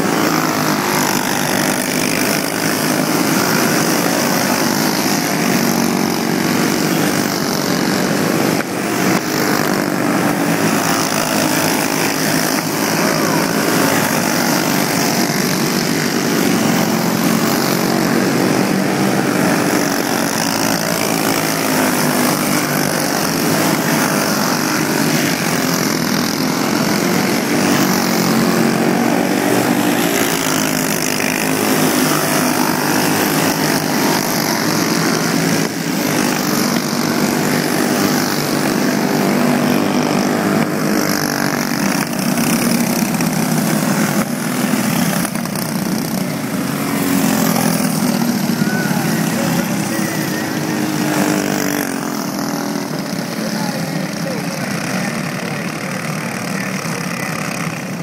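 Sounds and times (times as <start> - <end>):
racing kart engines droning: 0.0 - 58.0.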